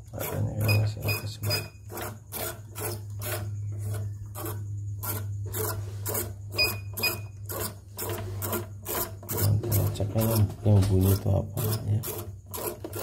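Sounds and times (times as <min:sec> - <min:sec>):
embroidery machine rasping scrape: 0:00.0 - 0:13.0
low machine hum: 0:00.0 - 0:13.0.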